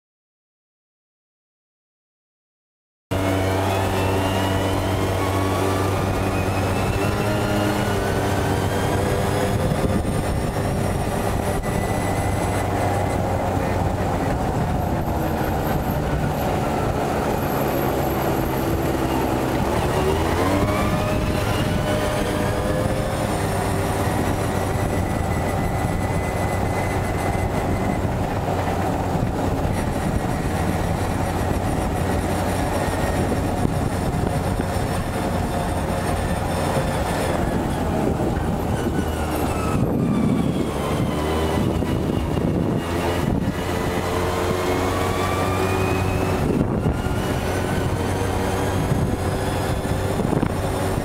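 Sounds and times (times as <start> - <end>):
quad bike engine running: 3.1 - 51.0
road noise: 3.1 - 51.0.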